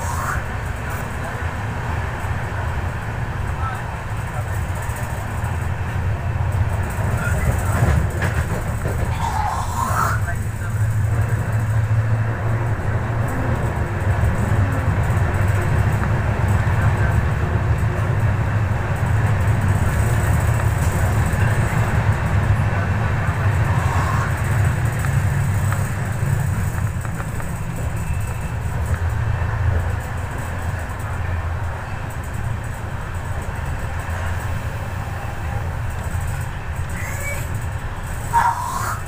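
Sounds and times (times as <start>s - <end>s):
train rumbling on track: 0.0s - 39.0s.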